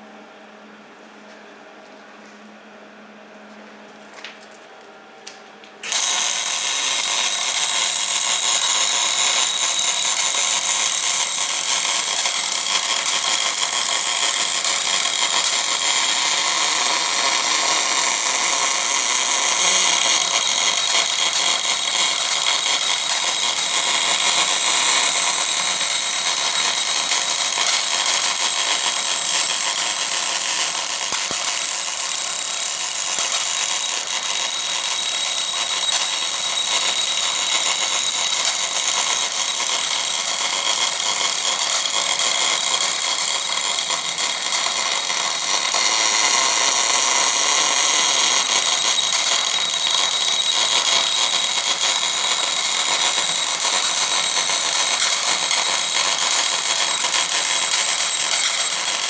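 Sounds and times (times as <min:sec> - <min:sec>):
welding arc hissing: 0:05.8 - 0:59.0.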